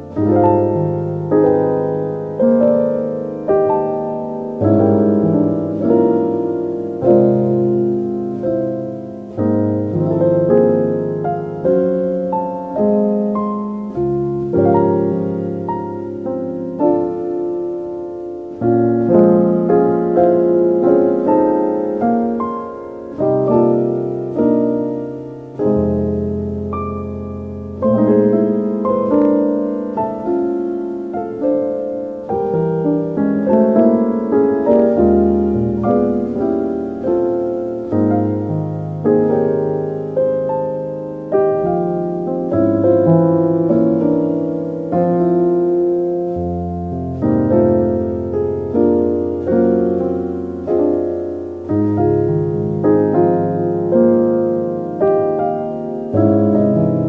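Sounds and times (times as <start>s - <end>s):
slow solo piano: 0.0s - 57.0s.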